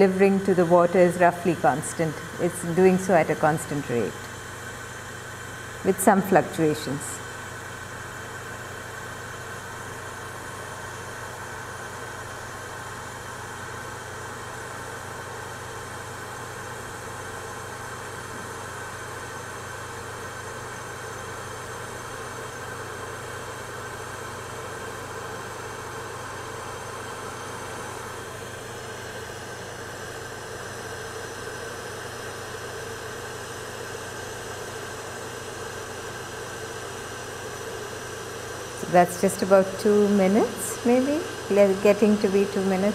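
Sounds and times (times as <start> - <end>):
electric kettle heating water: 0.0 - 42.9.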